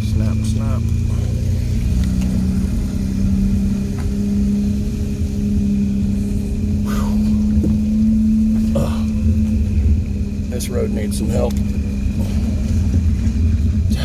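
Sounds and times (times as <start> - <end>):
car engine hum: 0.0 - 14.0
road rumble: 0.0 - 14.0.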